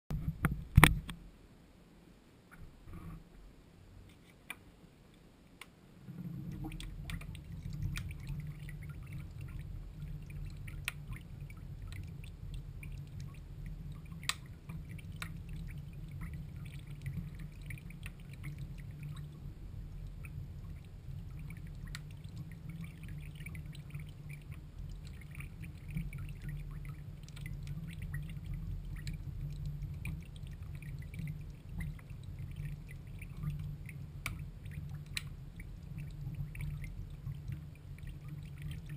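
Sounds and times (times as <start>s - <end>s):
steady low rumble: 5.8s - 38.9s.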